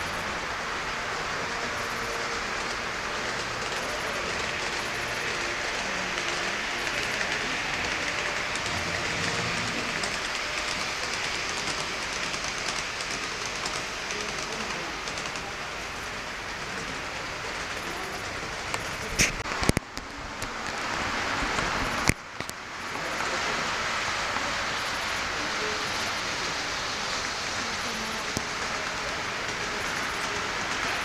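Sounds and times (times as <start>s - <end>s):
model train wheels rolling on track: 0.0s - 31.0s.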